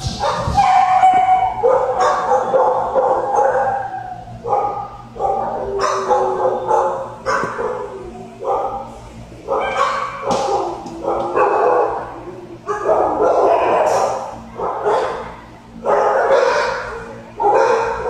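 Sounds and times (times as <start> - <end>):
dogs barking and yelping: 0.0 - 18.0.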